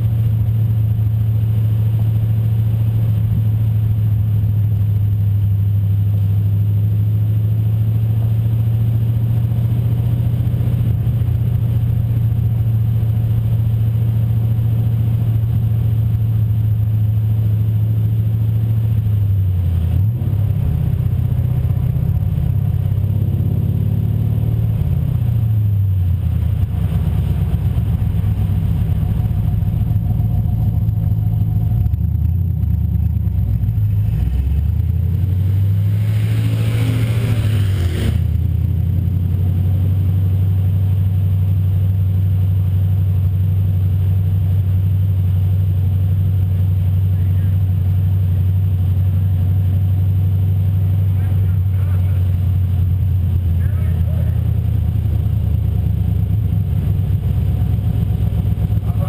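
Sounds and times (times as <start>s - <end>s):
car engine idling loudly: 0.0s - 59.0s.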